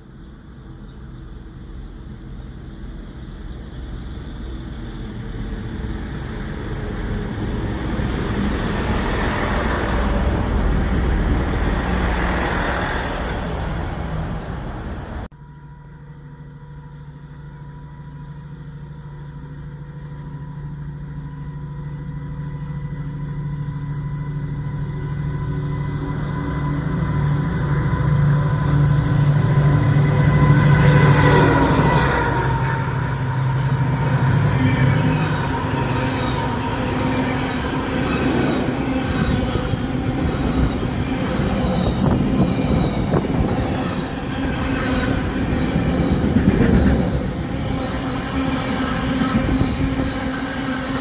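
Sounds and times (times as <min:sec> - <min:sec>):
diesel train engine drone: 0:00.0 - 0:51.0
diesel train rumbling past: 0:00.0 - 0:51.0.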